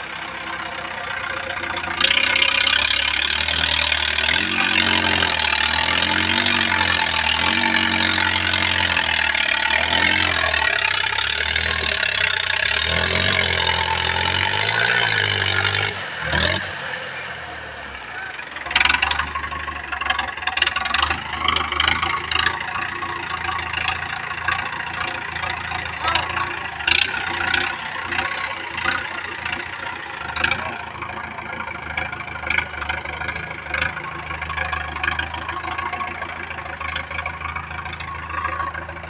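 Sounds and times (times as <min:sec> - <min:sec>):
tractor diesel engine revving: 0:00.0 - 0:39.0.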